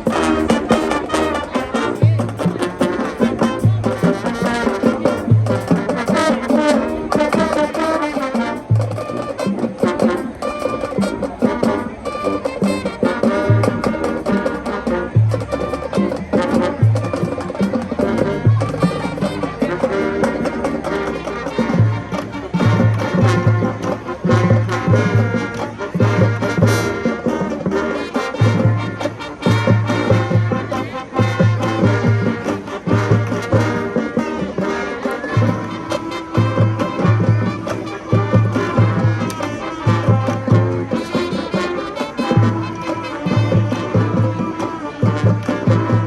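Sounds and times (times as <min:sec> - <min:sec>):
brass melody: 0:00.0 - 0:46.0
marching band playing: 0:00.0 - 0:46.0
marching percussion: 0:00.0 - 0:46.0.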